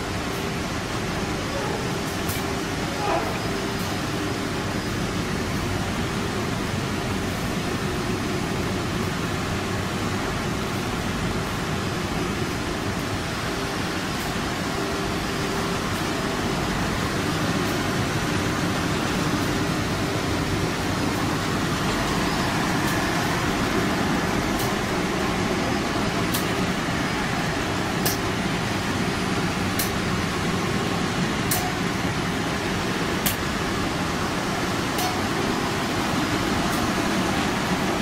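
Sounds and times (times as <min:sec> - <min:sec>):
machine hum and whir: 0:00.0 - 0:38.0.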